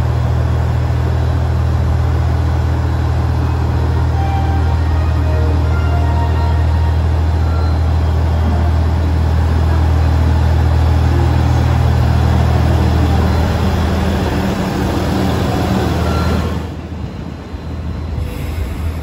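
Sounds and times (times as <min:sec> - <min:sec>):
diesel railcar engine droning: 0:00.0 - 0:19.0.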